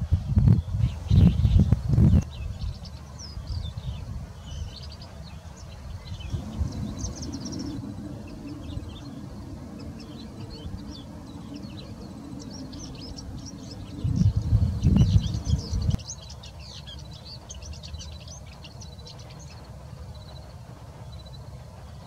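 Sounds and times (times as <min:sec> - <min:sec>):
bird twittering song: 0:00.0 - 0:22.0
low background rumble: 0:00.0 - 0:22.0.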